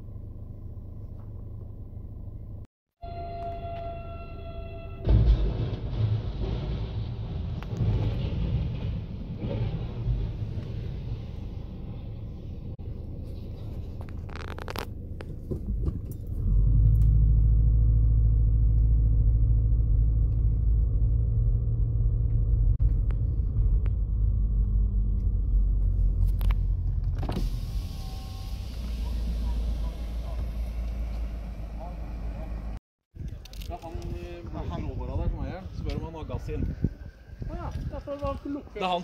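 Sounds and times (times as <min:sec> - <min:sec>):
car engine rumbling: 0:00.0 - 0:03.4, 0:05.1 - 0:35.8.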